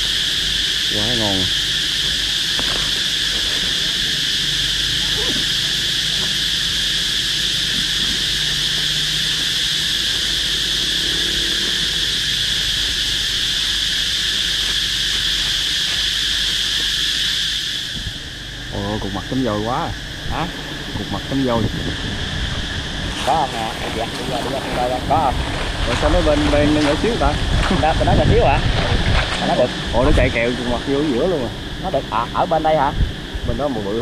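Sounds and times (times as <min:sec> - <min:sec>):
insects shrilling: 0:00.0 - 0:34.0.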